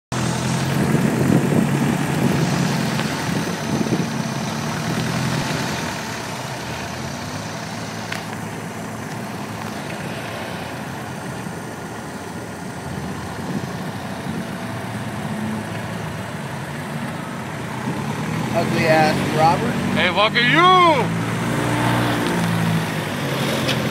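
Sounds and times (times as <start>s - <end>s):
engine idling: 0.1s - 21.1s.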